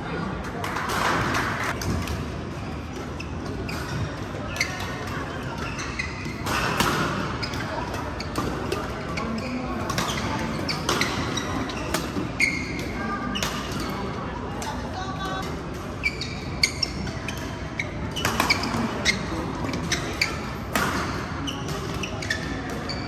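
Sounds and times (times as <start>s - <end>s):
shoes squeaking on court: 1.7s - 14.0s, 15.9s - 23.0s.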